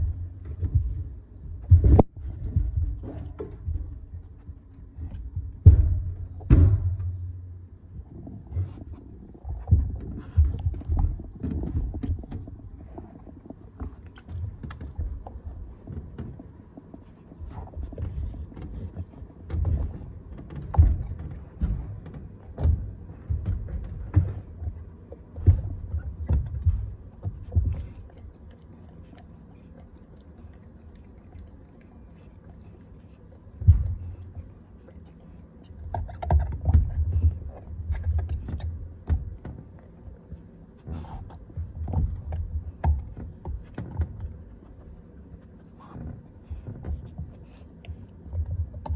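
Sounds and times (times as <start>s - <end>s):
dog chewing rubber toy: 0.0s - 48.9s.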